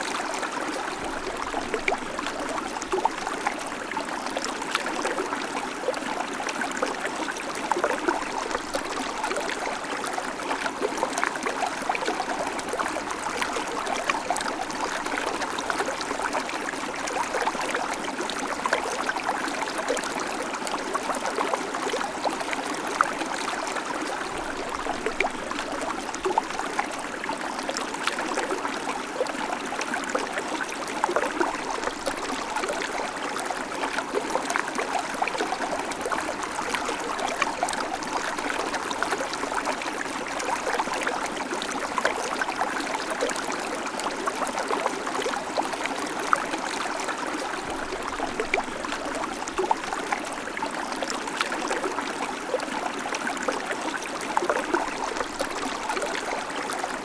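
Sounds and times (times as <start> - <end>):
small trickles and splashes: 0.0 - 57.0.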